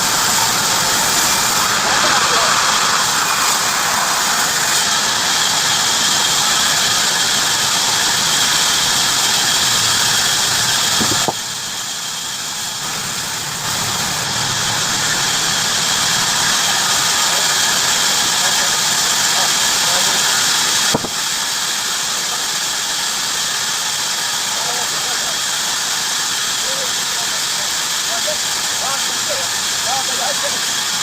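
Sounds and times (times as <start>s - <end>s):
bandsaw sawing through wood: 0.0s - 11.4s, 14.6s - 31.0s.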